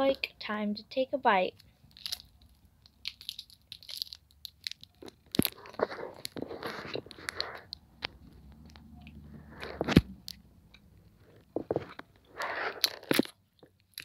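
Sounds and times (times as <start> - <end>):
person chewing taffy: 1.6 - 14.0.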